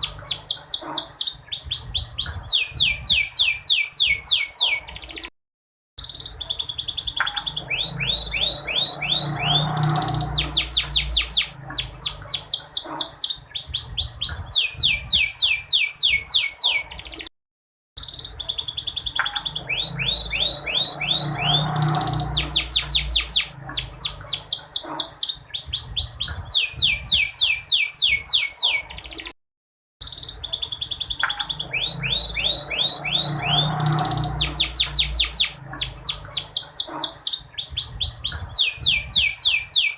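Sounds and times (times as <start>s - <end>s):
canary trilling: 0.0s - 5.3s, 6.0s - 17.3s, 18.0s - 29.3s, 30.0s - 39.9s.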